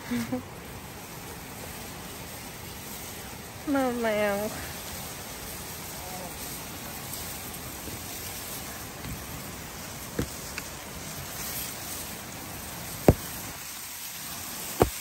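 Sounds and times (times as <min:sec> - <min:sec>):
grass rustling as people walk: 0:00.0 - 0:15.0.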